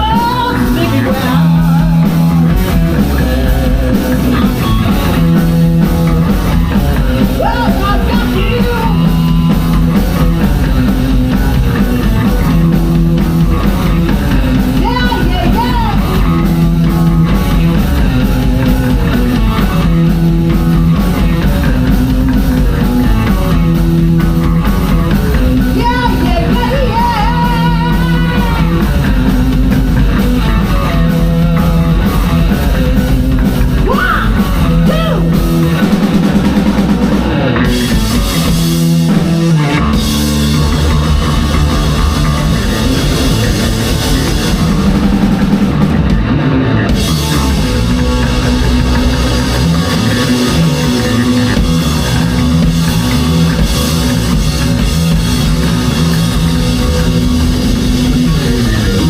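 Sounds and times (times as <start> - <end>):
live rock band playing loudly: 0.0 - 59.0.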